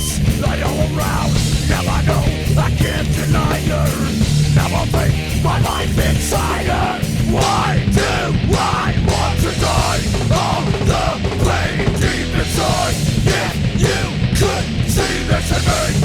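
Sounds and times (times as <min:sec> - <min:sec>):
heavy metal band playing: 0:00.0 - 0:16.0.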